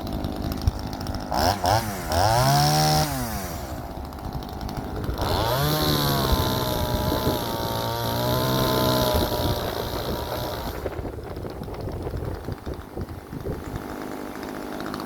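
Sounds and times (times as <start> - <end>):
chainsaw idling and revving: 0.0 - 15.0.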